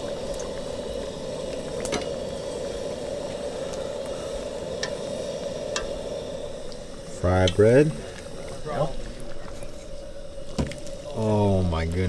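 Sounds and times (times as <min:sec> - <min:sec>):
meat sizzling in hot oil: 0:00.0 - 0:12.0
oil popping: 0:00.0 - 0:12.0.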